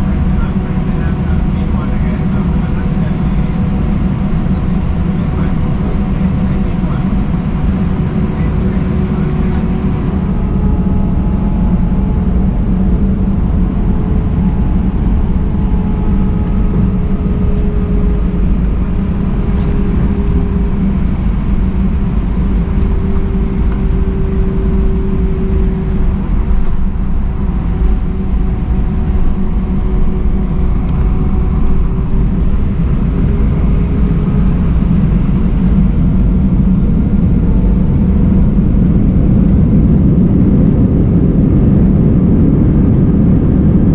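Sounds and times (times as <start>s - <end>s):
jet engine and airflow rumble: 0.0s - 43.9s
wavering engine tones: 0.0s - 43.9s.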